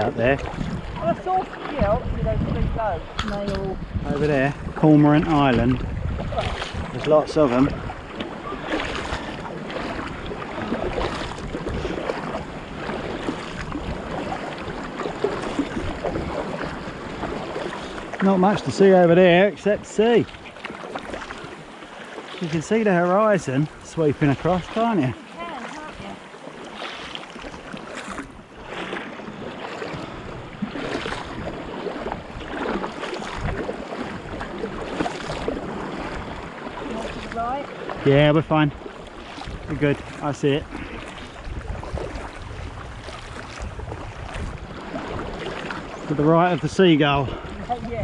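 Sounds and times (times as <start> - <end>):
wind buffeting microphone: 0.0 - 18.8, 27.6 - 48.0
water splashing around kayak: 0.0 - 48.0.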